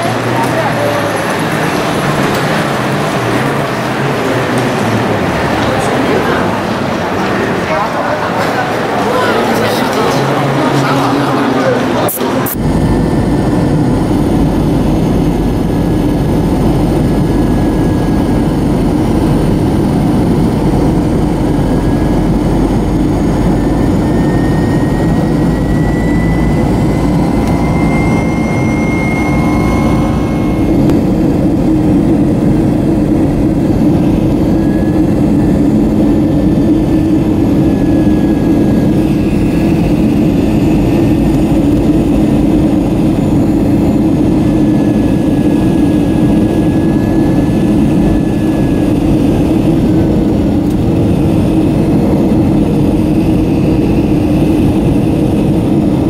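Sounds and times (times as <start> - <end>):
faint high whine: 0.0 - 56.0
jet cabin engine rumble: 0.0 - 56.0.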